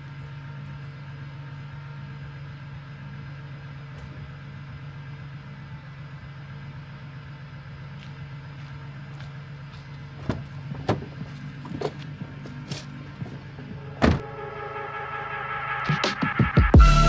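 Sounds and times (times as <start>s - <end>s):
van engine running: 0.0s - 14.9s.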